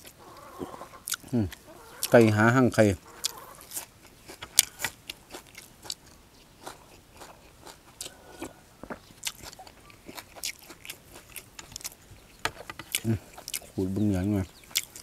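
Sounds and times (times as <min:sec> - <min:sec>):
man chewing: 0:00.0 - 0:02.2, 0:03.1 - 0:13.8, 0:14.6 - 0:15.0.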